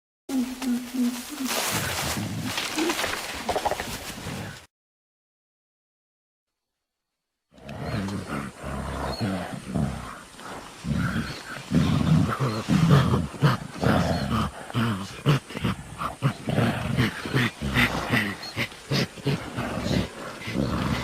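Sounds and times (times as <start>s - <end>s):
gorilla low vocalizations: 0.3s - 4.6s, 7.6s - 21.0s.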